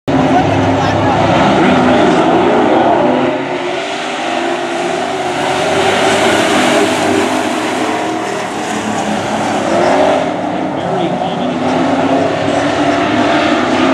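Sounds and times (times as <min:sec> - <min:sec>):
racing truck engines passing: 0:00.1 - 0:13.9.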